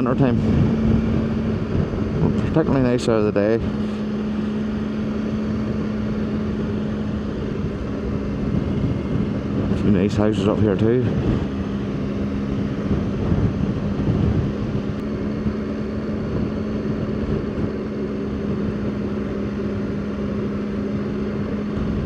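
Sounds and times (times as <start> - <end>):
motorcycle engine cruising: 0.0 - 22.0
wind and road noise: 0.0 - 22.0.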